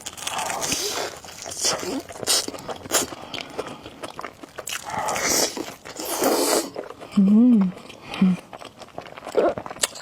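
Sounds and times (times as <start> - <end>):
noodles slurped and chewed: 0.0 - 10.0.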